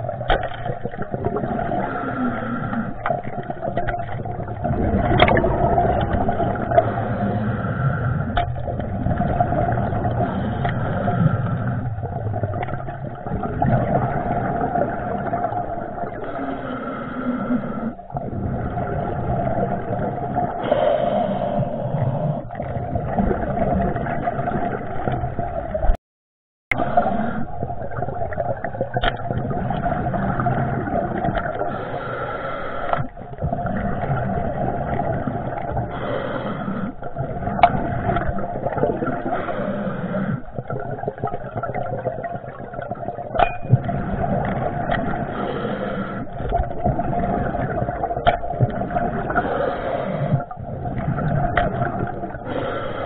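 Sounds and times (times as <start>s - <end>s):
muffled underwater noise: 0.0s - 26.0s, 26.7s - 53.0s.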